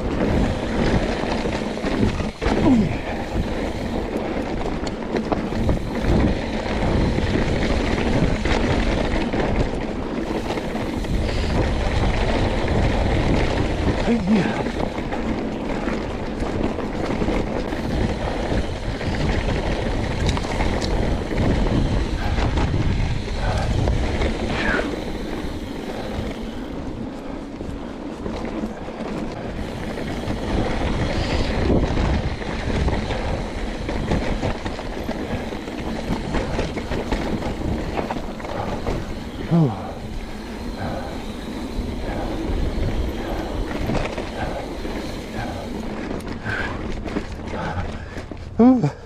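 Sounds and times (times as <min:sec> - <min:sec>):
bike clicks and rattles: 0:00.0 - 0:49.0
bike tyre noise: 0:00.0 - 0:49.0
wind on microphone: 0:00.0 - 0:49.0.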